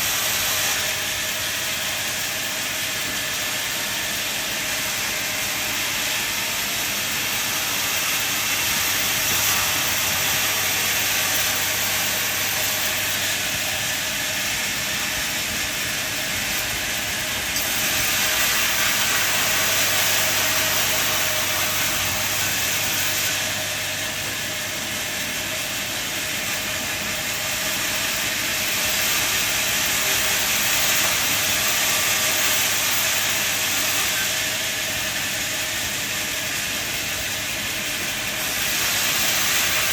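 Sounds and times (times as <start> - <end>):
saw hissing through wood: 0.0 - 39.9.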